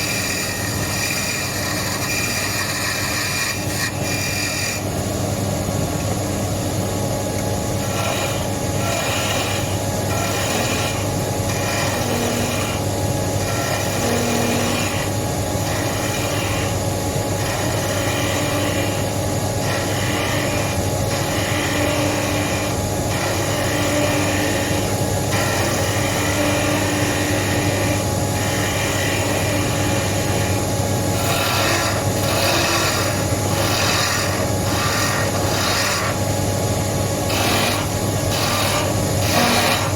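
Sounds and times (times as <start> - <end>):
tool scraping turning wood: 0.0 - 5.1, 7.4 - 39.9
wood lathe running: 0.0 - 5.1, 7.6 - 39.9.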